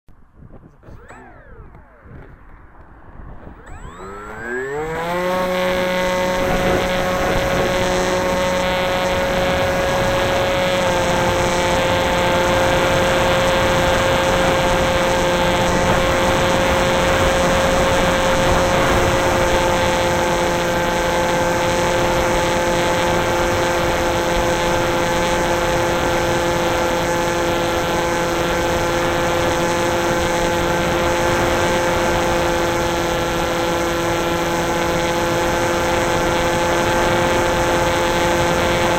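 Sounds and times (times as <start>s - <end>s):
electric motors and propellers whining: 0.4s - 38.9s.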